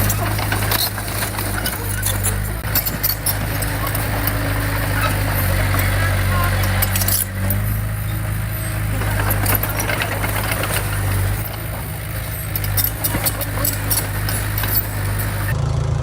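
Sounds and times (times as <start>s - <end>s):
metallic clanks and knocks: 0.0s - 15.6s
diesel engine running: 0.0s - 16.0s.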